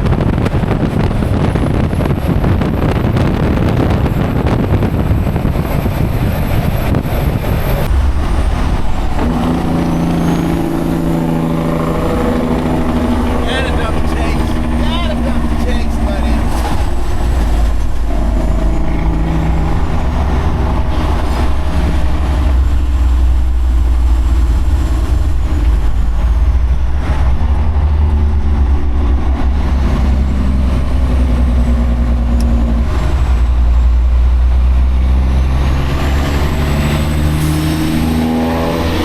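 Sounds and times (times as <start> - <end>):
truck diesel engine rumbling: 0.0 - 39.0.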